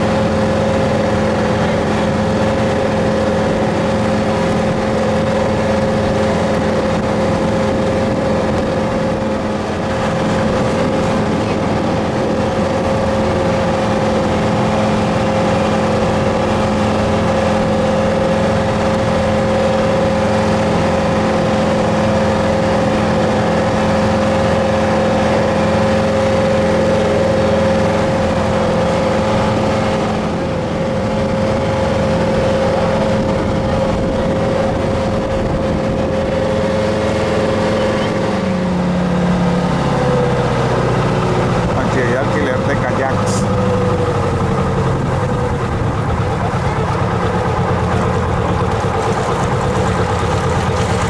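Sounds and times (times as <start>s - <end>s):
motorboat engine running: 0.0s - 51.0s
water rushing: 0.0s - 51.0s
wind: 0.0s - 51.0s.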